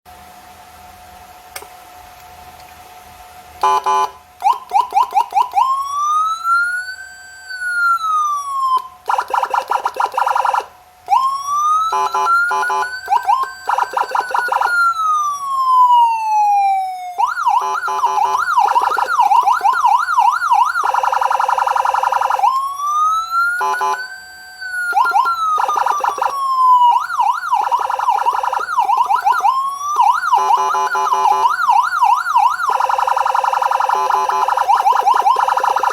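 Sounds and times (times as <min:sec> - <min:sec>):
electronic police siren: 0:03.6 - 0:35.9.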